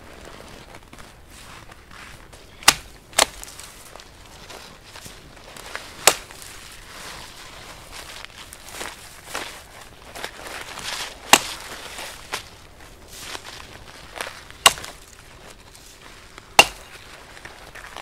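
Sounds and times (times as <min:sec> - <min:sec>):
branches rustling: 0:00.0 - 0:18.0
crunching in snow: 0:00.0 - 0:18.0
branches cracking off: 0:02.3 - 0:18.0.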